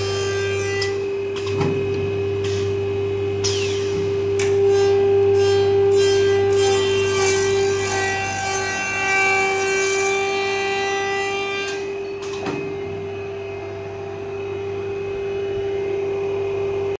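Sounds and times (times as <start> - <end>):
steady drone: 0.0 - 17.0.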